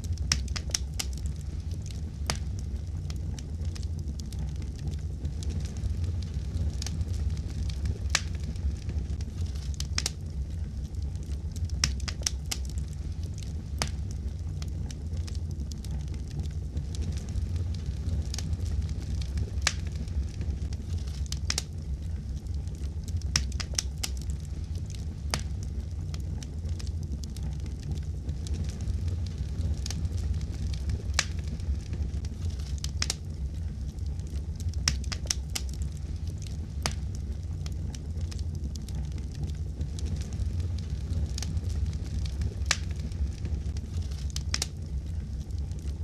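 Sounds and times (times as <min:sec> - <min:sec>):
wood fire crackling in fireplace: 0:00.0 - 0:46.0.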